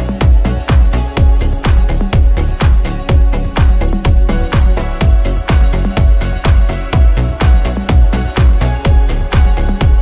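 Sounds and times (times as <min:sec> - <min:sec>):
music with kick-drum beat: 0:00.0 - 0:10.0.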